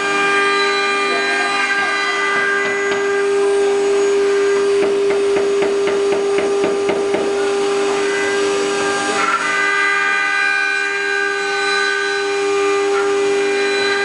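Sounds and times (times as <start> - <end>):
cutters carving wood: 0.0 - 14.0
router spindles whining: 0.0 - 14.0.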